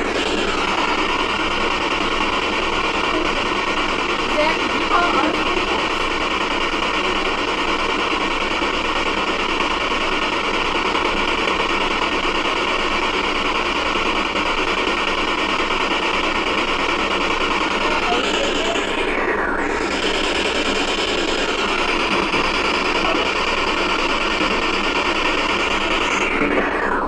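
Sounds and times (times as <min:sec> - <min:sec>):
loud static hiss: 0:00.0 - 0:27.0.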